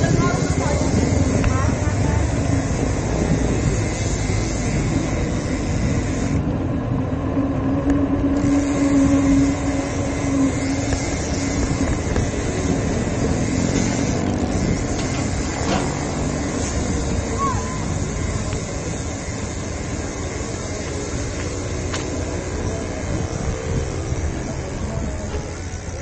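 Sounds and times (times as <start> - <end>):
road and traffic noise: 0.0 - 26.0
wind on microphone: 0.0 - 26.0.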